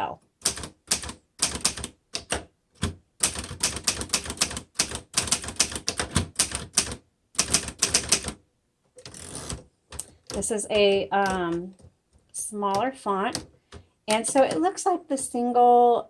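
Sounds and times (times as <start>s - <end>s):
manual typewriter typing: 0.0s - 8.4s, 9.0s - 15.5s.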